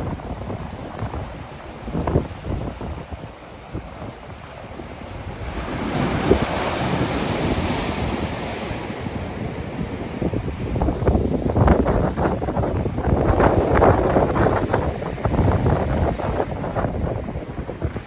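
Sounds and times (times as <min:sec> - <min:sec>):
ocean wave breaking: 0:00.0 - 0:18.0
wind buffeting microphone: 0:00.0 - 0:18.0.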